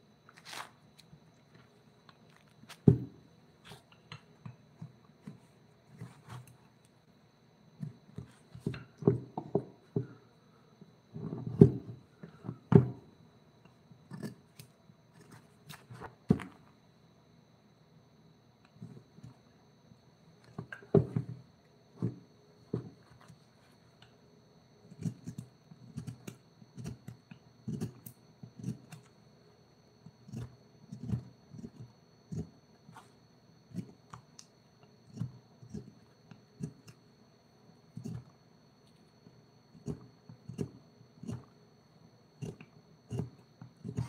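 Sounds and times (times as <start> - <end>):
faint high whine: 0.0 - 44.0.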